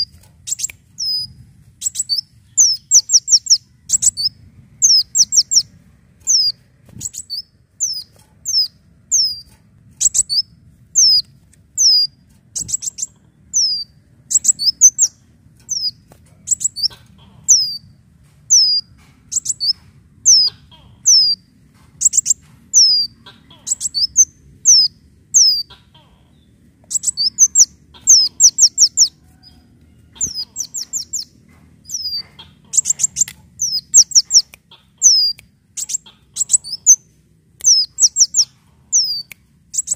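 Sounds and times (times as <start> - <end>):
sunbird singing: 0.0 - 29.6, 30.2 - 39.9.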